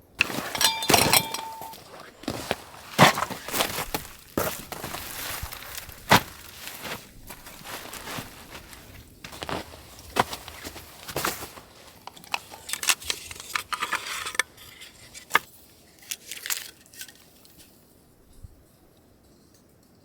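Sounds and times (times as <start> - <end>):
crunching and rustling with clicks: 0.0 - 17.9.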